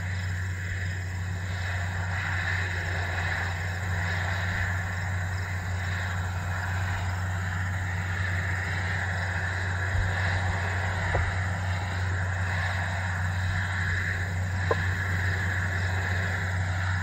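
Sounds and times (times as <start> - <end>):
steady hiss: 0.0 - 17.0
tractor diesel engine running: 0.0 - 17.0.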